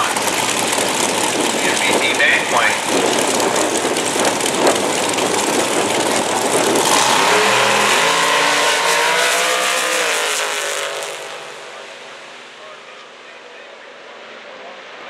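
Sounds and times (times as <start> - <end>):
dragster engines revving: 0.0 - 14.6.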